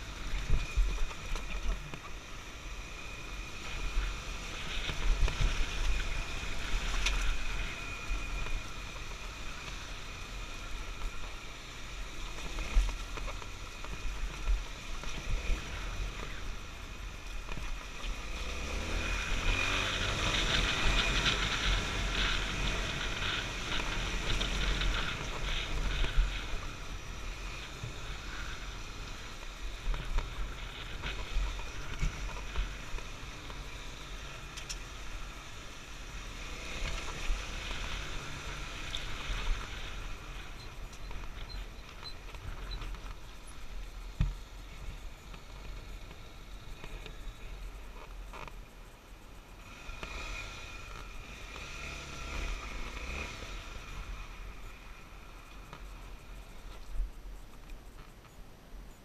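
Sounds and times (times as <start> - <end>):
dirt bike engine running: 0.0 - 58.2.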